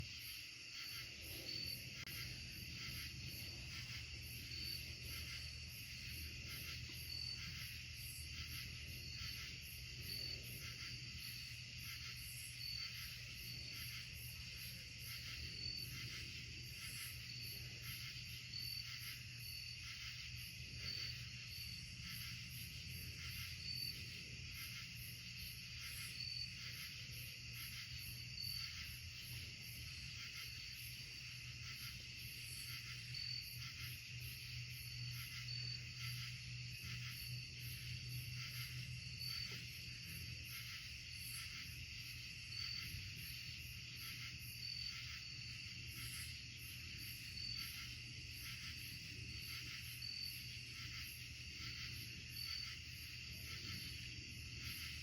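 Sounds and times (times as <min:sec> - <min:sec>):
crickets and insects trilling: 0:00.0 - 0:55.0.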